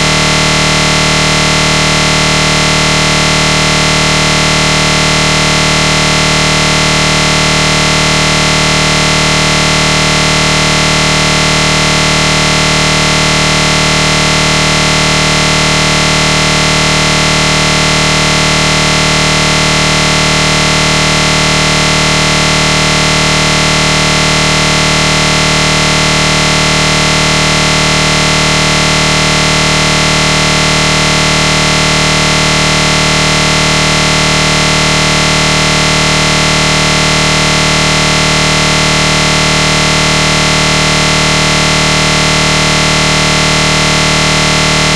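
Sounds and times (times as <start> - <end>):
loud buzzing drone: 0.0 - 44.9.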